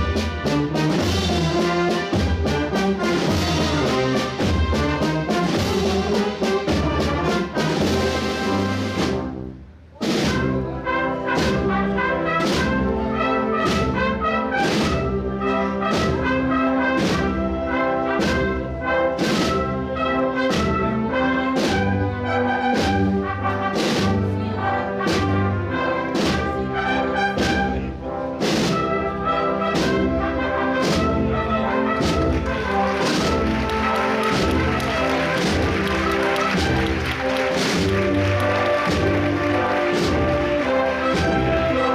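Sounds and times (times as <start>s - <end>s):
steady drumbeats: 0.0s - 26.6s, 27.2s - 41.9s
brass band playing a march: 0.0s - 41.9s.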